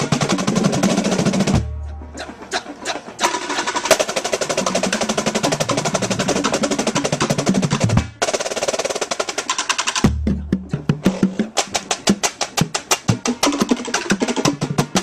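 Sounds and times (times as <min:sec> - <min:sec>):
snare drum rolls: 0:00.0 - 0:15.0.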